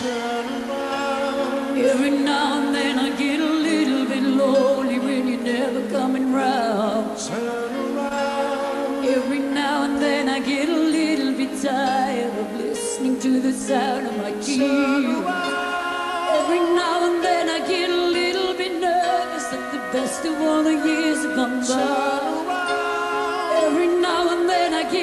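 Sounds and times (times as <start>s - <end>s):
woman singing with vibrato: 0.0s - 25.0s.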